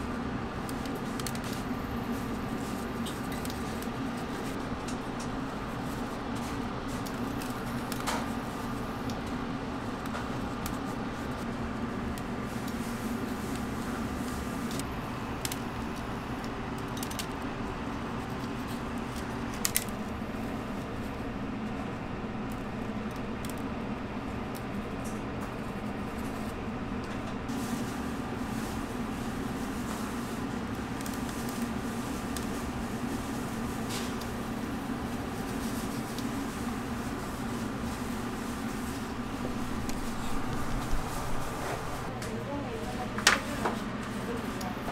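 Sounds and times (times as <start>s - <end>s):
kitchen equipment humming: 0.0s - 44.9s.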